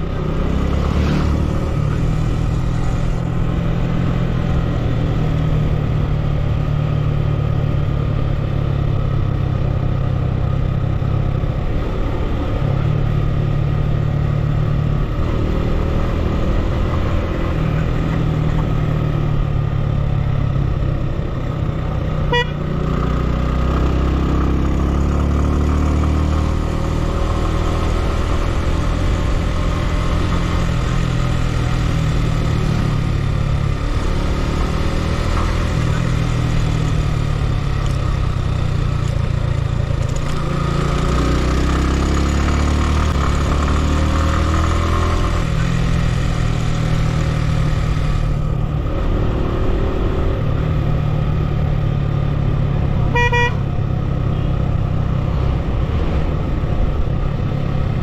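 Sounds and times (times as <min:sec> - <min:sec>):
car engine driving: 0:00.0 - 0:58.0
road noise: 0:00.0 - 0:58.0.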